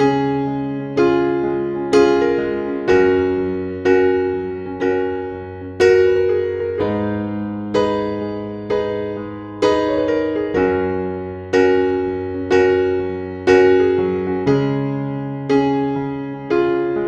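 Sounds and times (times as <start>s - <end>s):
slow electric piano chords: 0.0s - 17.0s.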